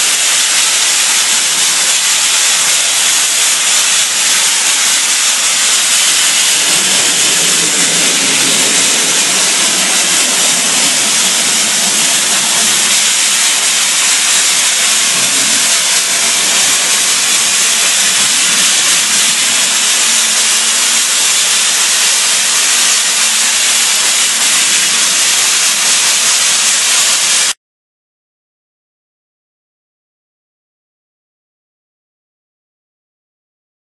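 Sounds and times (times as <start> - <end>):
blasting nozzle loud hiss: 0.0 - 27.6.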